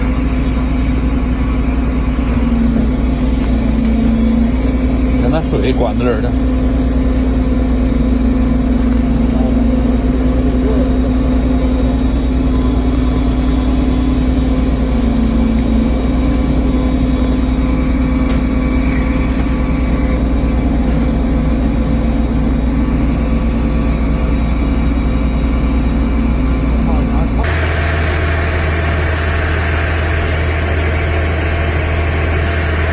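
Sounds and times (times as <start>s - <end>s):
heavy engine idling: 0.0s - 32.9s.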